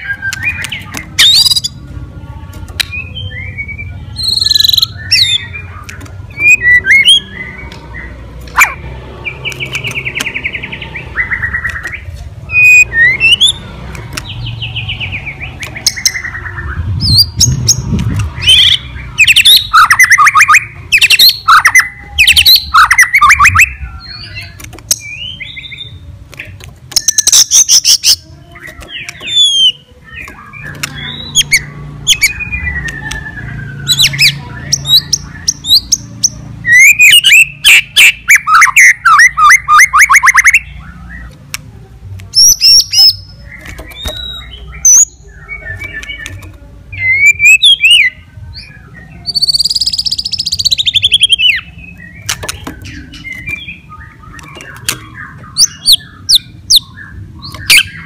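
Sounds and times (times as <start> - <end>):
songbird trilling and whistling: 0.0 - 1.8, 2.8 - 41.4, 42.3 - 58.0.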